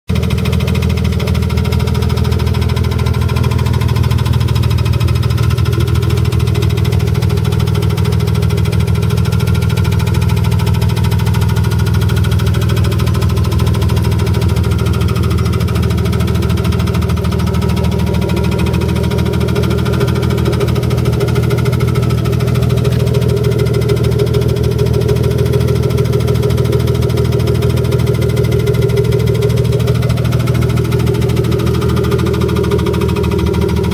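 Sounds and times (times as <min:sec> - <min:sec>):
car engine running steadily: 0:00.1 - 0:33.9
engine ticking: 0:00.1 - 0:33.9.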